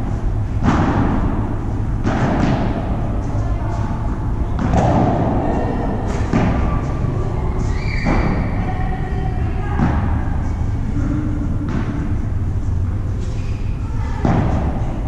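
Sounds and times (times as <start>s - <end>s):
balls thudding off rackets and walls: 0.0s - 15.0s
low steady hum: 0.0s - 15.0s.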